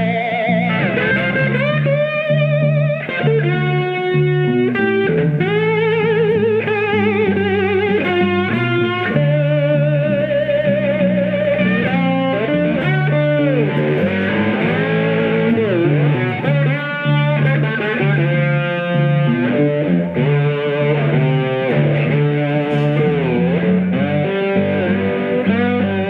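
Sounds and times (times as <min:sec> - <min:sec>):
electric blues lead guitar: 0:00.0 - 0:26.0
walking bass line on guitar: 0:00.0 - 0:26.0.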